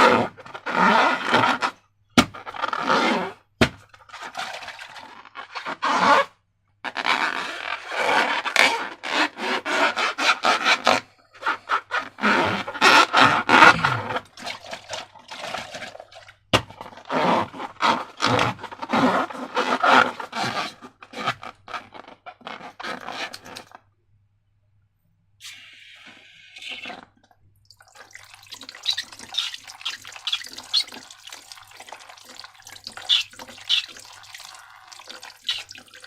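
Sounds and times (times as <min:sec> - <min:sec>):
slime and balloons scraping: 0:00.0 - 0:23.8, 0:25.4 - 0:27.2, 0:28.1 - 0:36.0.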